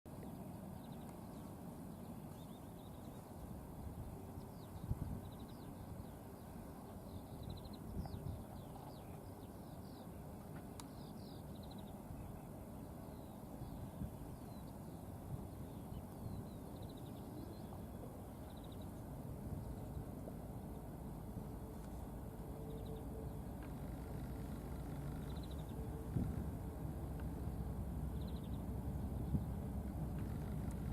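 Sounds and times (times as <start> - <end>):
faint low rumble: 0.1 - 30.9
songbirds chirping and trilling: 0.1 - 30.9.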